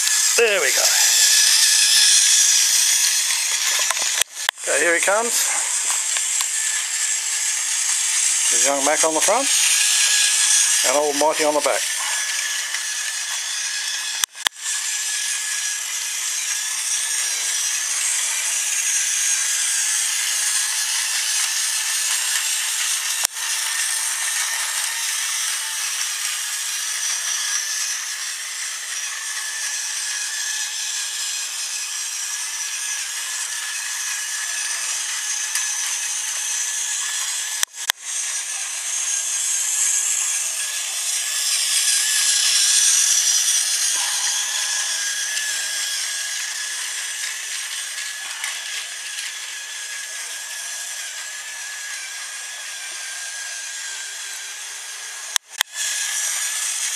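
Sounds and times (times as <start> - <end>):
toy train motor whirring: 0.0 - 56.9.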